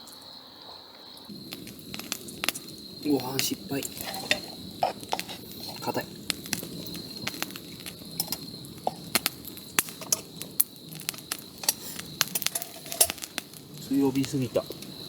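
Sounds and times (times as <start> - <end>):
high insect trill: 0.0 - 15.0
campfire crackling and popping: 1.1 - 15.0.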